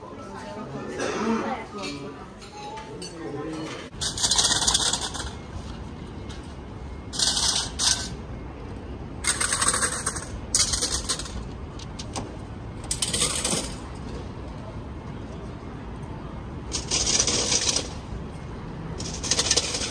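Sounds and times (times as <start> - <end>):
city street background: 0.0 - 19.9.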